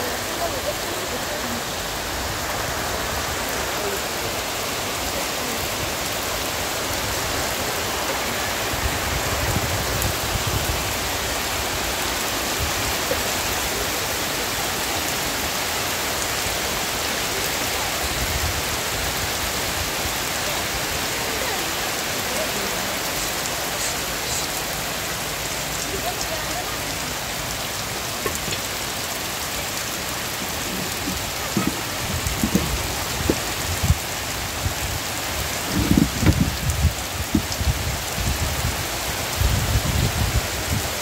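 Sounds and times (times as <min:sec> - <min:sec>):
heavy rain on leaves: 0:00.0 - 0:41.0
water running off a roof: 0:00.0 - 0:41.0.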